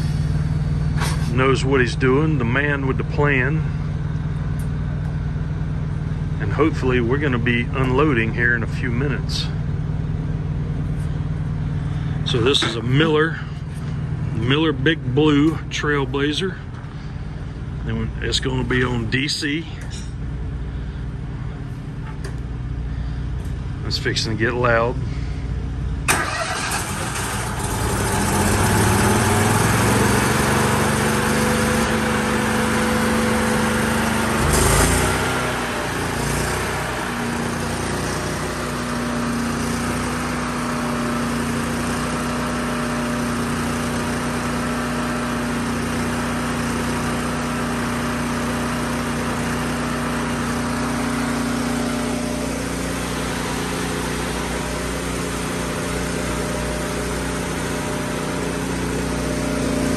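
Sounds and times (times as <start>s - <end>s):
welder engine running: 0.0s - 59.9s.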